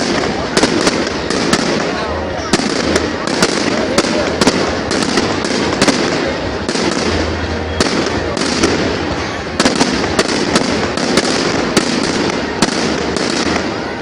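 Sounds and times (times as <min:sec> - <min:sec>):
fireworks crackling and rumbling: 0:00.0 - 0:14.0.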